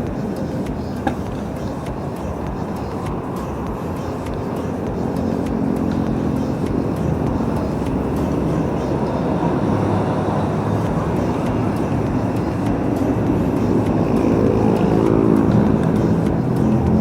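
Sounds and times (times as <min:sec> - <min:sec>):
heavy highway traffic: 0:00.0 - 0:17.0.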